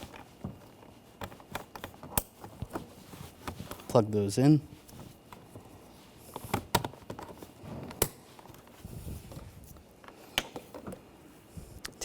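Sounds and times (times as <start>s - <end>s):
handling rustling: 0.0s - 11.7s.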